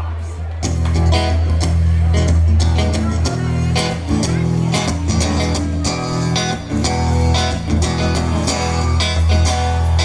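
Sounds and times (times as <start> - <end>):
held bass notes: 0.5 - 10.0
guitar strumming: 0.6 - 10.0.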